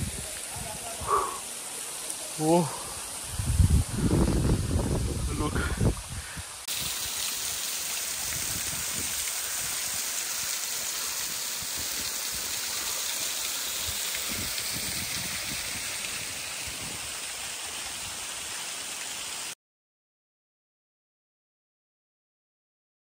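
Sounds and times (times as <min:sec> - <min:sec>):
waterfall splashing onto rocks: 0:00.0 - 0:19.6.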